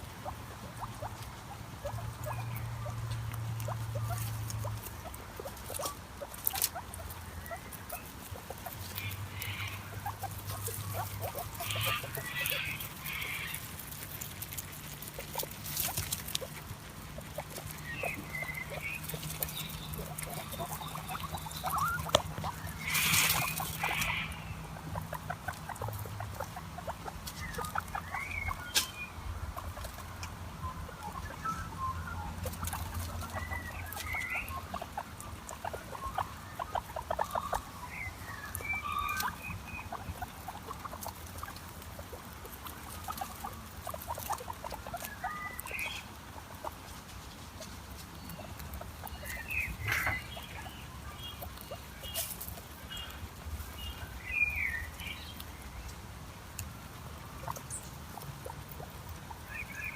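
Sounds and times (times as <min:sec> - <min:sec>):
guinea pig squeaking: 0:00.0 - 0:59.9.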